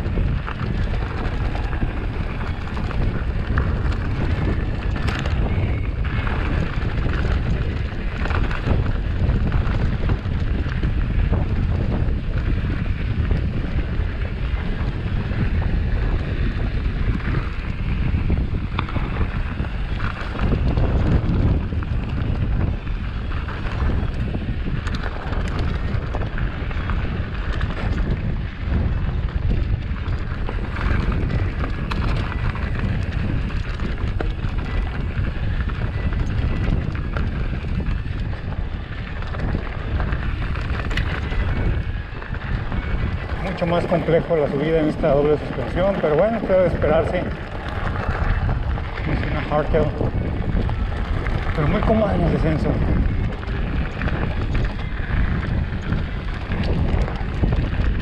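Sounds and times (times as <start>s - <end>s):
bike rattling: 0.0s - 58.0s
bike rolling over gravel: 0.0s - 58.0s
wind buffeting microphone: 0.0s - 58.0s.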